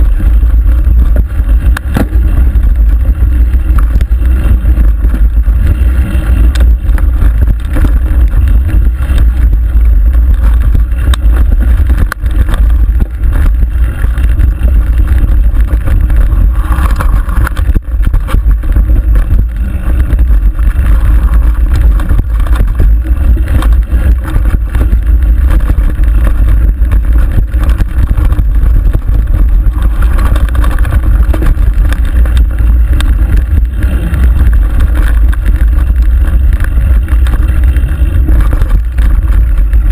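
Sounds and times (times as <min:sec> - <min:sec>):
bike frame rattling and knocking: 0:00.0 - 0:39.9
wind buffeting microphone: 0:00.0 - 0:39.9.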